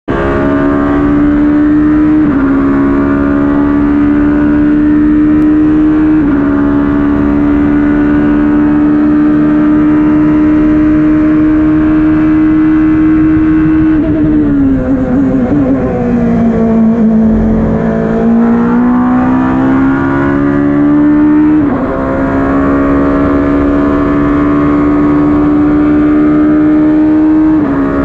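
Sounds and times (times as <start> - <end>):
race car engine at full throttle: 0.0 - 28.0.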